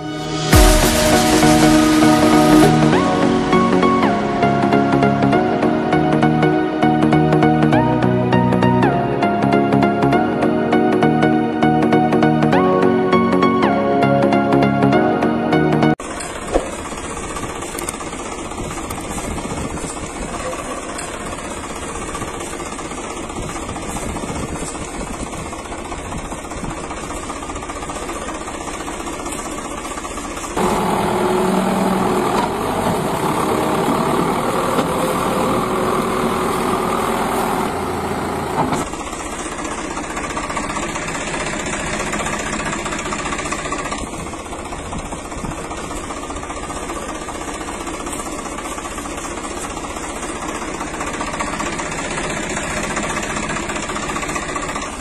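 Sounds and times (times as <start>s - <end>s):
louder fuller engine: 0.0s - 55.0s
tractor engine chugging: 0.1s - 7.1s, 16.0s - 55.0s.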